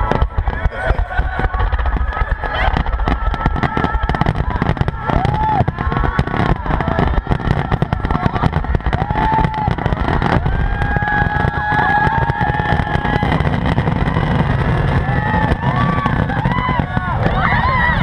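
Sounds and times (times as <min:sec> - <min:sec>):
fireworks crackling pops and bangs: 0:00.0 - 0:18.0
low rumble: 0:00.0 - 0:18.0.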